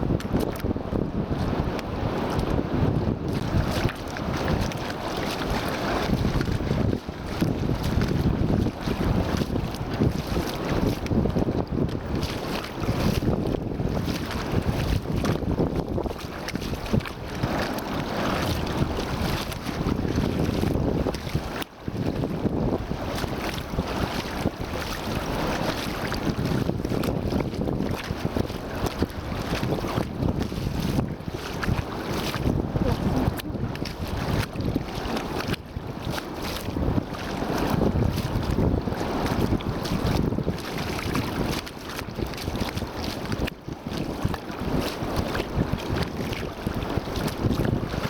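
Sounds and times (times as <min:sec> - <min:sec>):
sea waves washing on shore: 0:00.0 - 0:48.0
wind buffeting microphone: 0:00.0 - 0:48.0.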